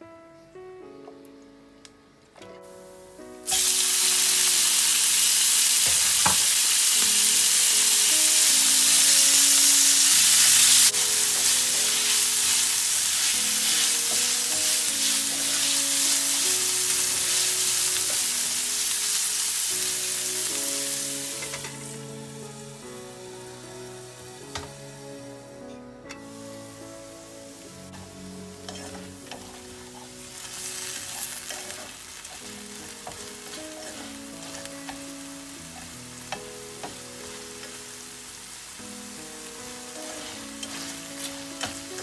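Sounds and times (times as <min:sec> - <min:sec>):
soft background music: 0:00.0 - 0:42.0
meat sizzling in hot oil: 0:03.4 - 0:25.2, 0:26.2 - 0:42.0.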